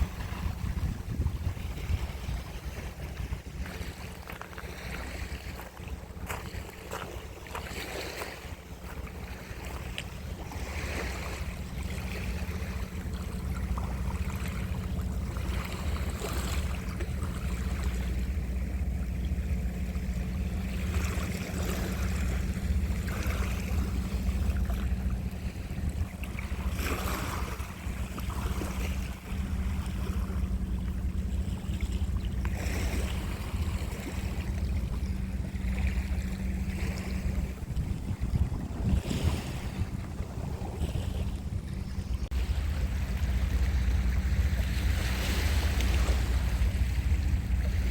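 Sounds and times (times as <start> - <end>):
faint constant hum: 0.0 - 47.9
low rumble: 0.0 - 47.9
sea surf washing on shore: 0.0 - 47.9.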